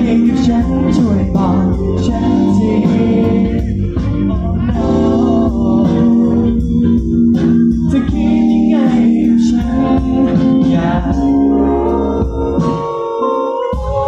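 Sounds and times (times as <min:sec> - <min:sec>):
live pop band: 0:00.0 - 0:14.0
man singing into microphone: 0:00.0 - 0:14.0.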